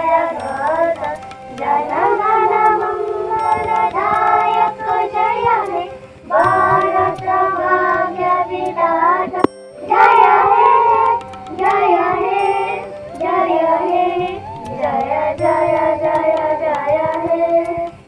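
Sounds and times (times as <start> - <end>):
children singing in unison: 0.0 - 18.0.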